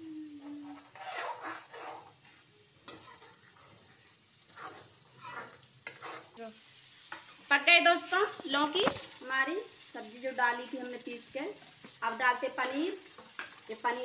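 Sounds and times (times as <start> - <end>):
paste sizzling in oil: 0.0 - 14.0
spoon scraping metal pan: 0.7 - 3.8, 4.5 - 14.0.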